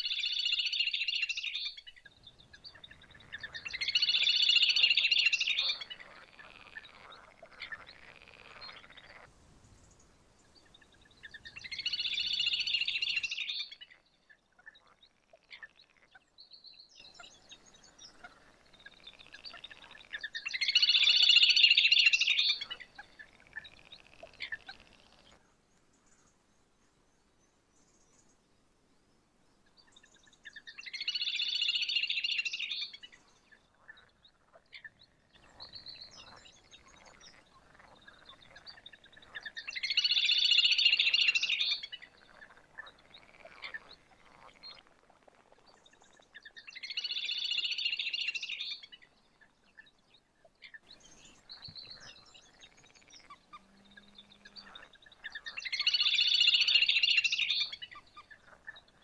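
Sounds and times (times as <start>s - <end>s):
bird trilling song: 0.0s - 25.4s, 29.6s - 59.0s.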